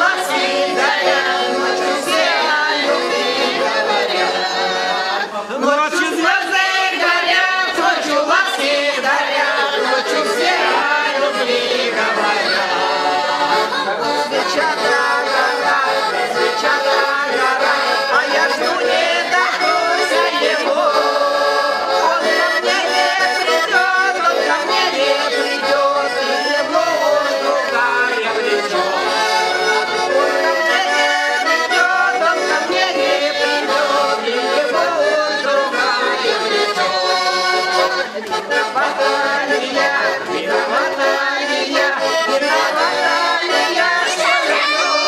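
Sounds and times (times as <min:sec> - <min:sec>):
button accordion folk tune: 0:00.0 - 0:45.0.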